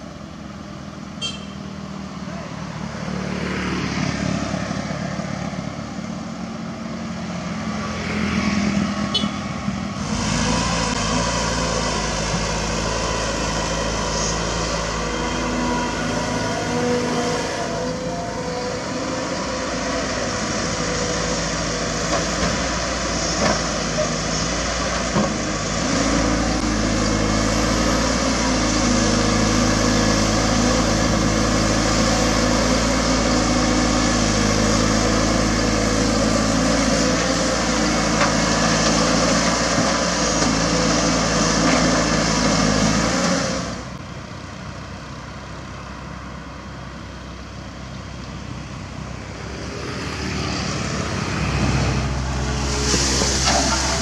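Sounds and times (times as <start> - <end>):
excavator engine and hydraulics: 0.0 - 54.0
road traffic: 0.0 - 54.0.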